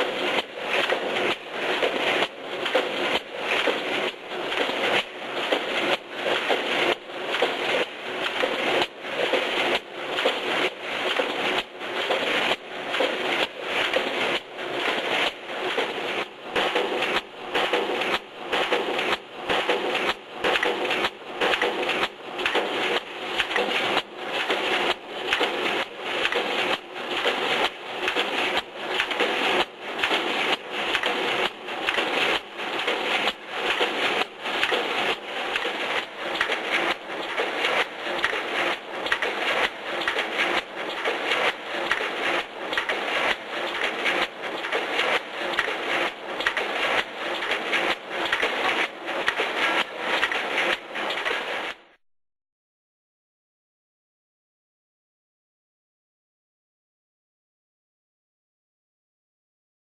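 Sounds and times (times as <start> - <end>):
welding machine clacking: 0.0 - 51.8.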